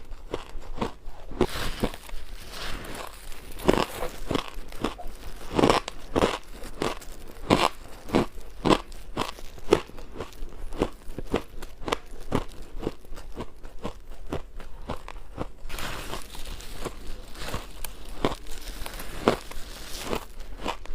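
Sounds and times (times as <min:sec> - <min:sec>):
ice crunching being chewed: 0:00.0 - 0:20.9.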